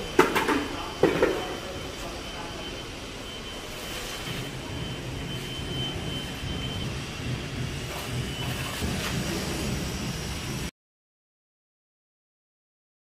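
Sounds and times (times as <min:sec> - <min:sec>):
construction site rumble: 0:00.0 - 0:10.7
faint high whine: 0:00.0 - 0:10.7.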